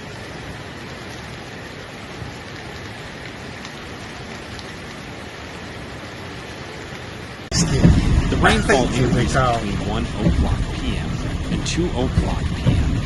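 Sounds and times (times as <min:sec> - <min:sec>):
heavy rain on hard surfaces: 0:00.0 - 0:13.0.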